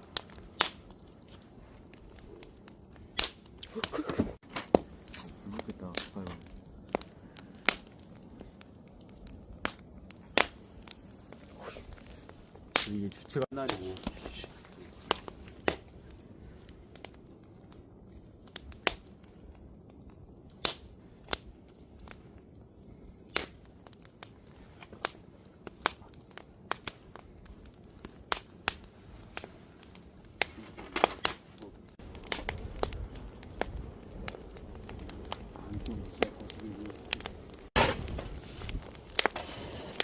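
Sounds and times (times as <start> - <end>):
campfire crackling and popping: 0.0 - 40.0
low rumble of flame: 0.0 - 40.0.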